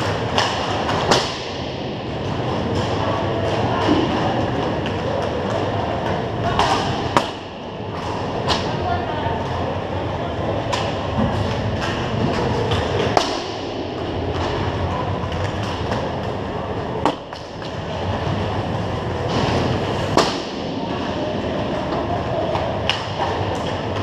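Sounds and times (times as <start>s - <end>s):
hockey sticks striking puck: 0.0s - 8.8s, 10.6s - 16.4s, 17.0s - 24.0s
skates scraping rumble: 0.0s - 24.0s.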